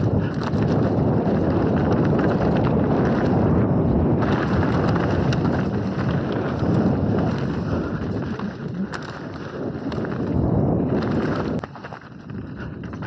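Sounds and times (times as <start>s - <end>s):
bike rattles and knocks: 0.0s - 13.0s
bike tyres rolling on dirt: 0.0s - 13.0s
wind buffeting microphone: 0.0s - 13.0s.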